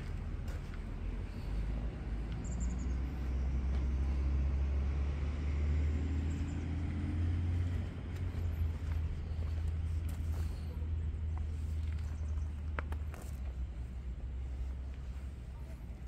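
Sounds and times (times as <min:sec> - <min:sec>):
car engine idling: 0:00.0 - 0:04.3, 0:06.3 - 0:16.0.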